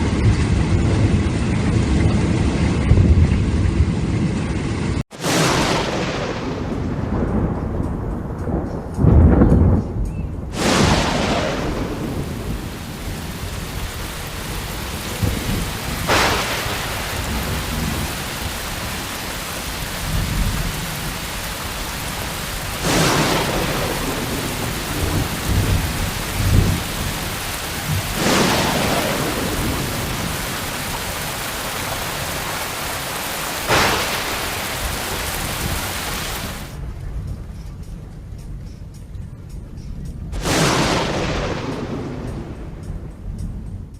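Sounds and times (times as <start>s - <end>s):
heavy rain falling: 0.0s - 9.8s, 10.4s - 37.2s, 40.4s - 43.4s
low thunder rumbling: 0.0s - 38.6s, 40.3s - 43.9s
sharp claps of thunder: 5.1s - 36.8s, 40.3s - 43.9s.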